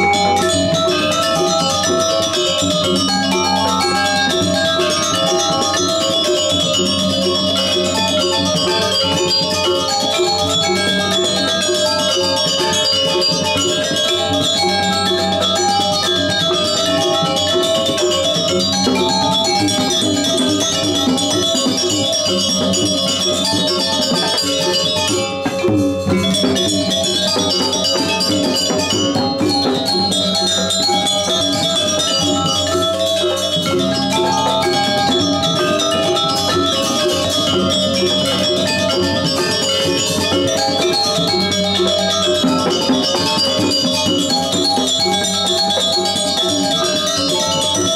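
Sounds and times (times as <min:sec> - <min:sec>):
hand drums: 0:00.0 - 0:47.9
metallophones ringing melody: 0:00.0 - 0:47.9.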